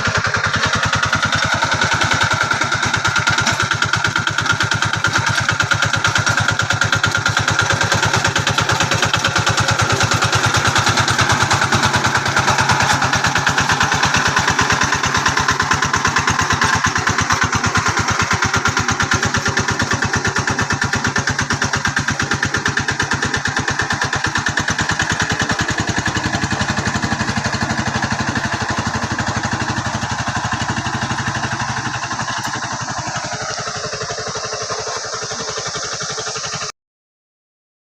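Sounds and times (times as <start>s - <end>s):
hand tractor engine running: 0.0s - 36.7s.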